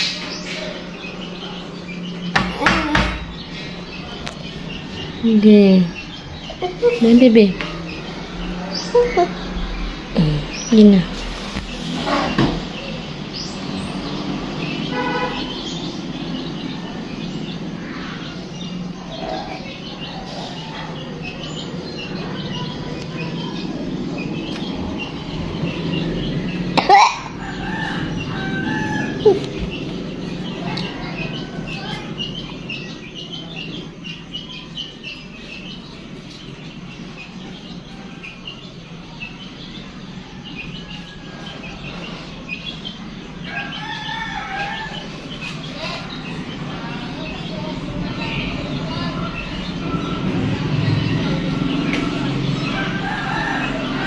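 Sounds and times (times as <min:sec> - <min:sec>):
birds calling and chirping: 0:00.0 - 0:54.0
steady background hum: 0:00.0 - 0:54.0.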